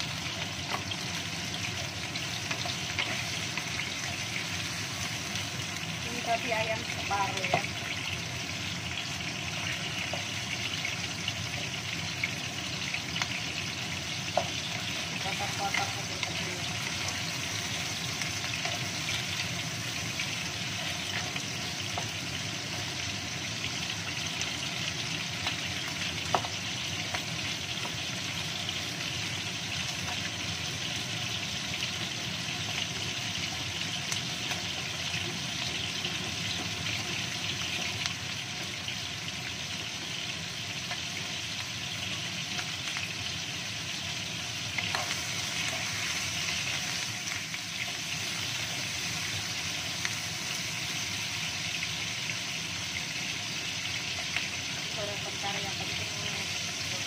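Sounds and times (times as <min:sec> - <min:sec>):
chicken sizzling in oil: 0:00.0 - 0:57.0.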